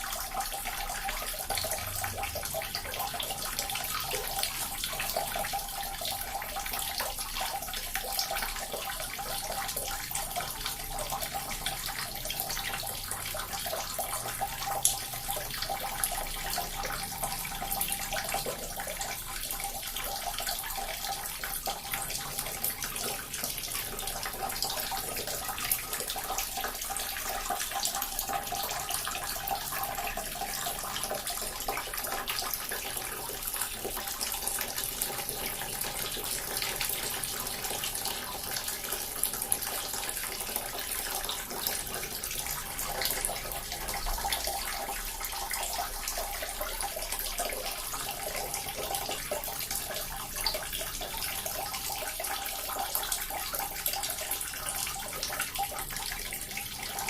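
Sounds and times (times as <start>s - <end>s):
fountain water trickling: 0.0s - 57.0s.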